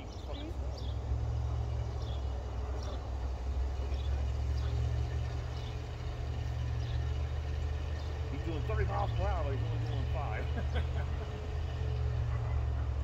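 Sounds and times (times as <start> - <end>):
car engine and tyres on snow: 0.0 - 13.0.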